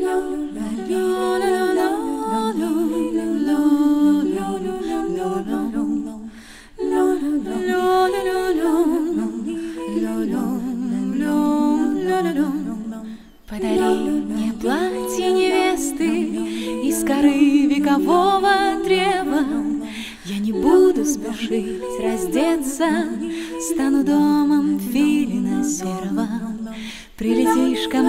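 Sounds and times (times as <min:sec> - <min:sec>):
women singing a cappella harmony: 0:00.0 - 0:28.0.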